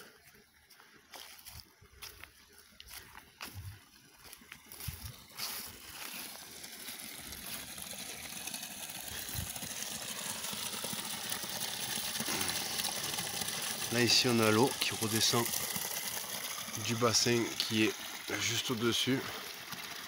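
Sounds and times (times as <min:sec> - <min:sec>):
water splashing trickle: 0:00.0 - 0:20.0.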